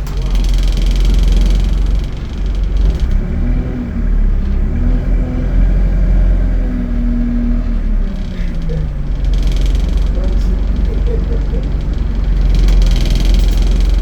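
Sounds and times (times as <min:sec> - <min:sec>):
bus diesel engine rumble: 0:00.0 - 0:14.0
gearbox whine: 0:00.0 - 0:14.0.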